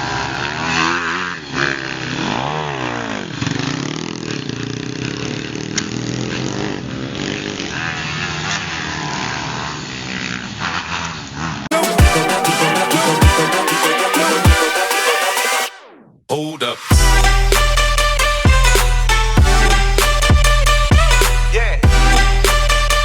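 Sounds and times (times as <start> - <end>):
dirt bike engine revving: 0.0 - 16.1, 16.9 - 23.0.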